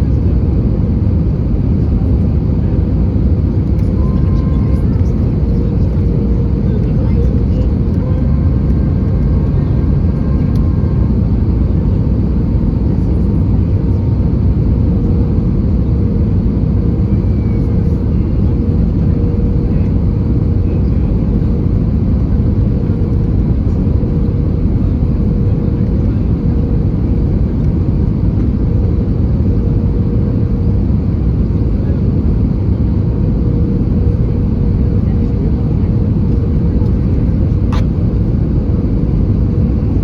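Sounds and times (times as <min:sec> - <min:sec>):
jet engine roar: 0:00.0 - 0:40.0
steady hum: 0:01.8 - 0:40.0.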